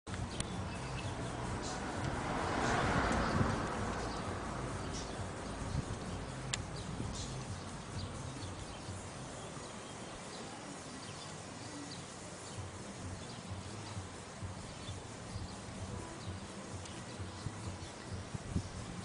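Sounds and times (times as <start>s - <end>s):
steady background hiss: 0.1s - 19.0s.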